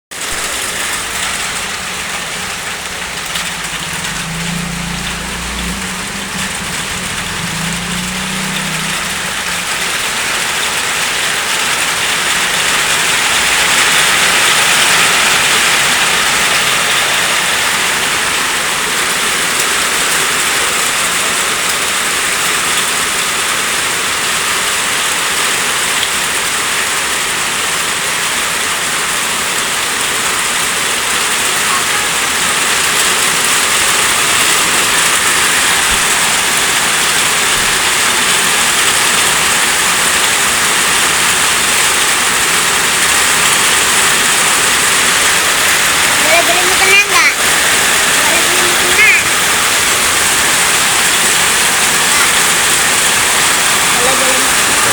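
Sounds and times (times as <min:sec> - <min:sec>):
rain falling steadily: 0:00.1 - 0:54.9.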